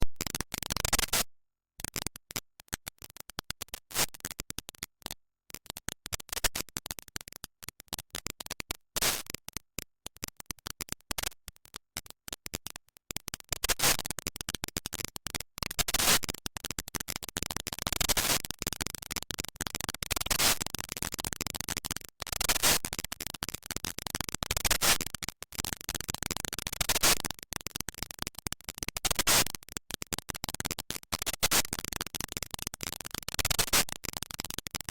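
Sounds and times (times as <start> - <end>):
crackling clicks and noise bursts: 0.0 - 34.9.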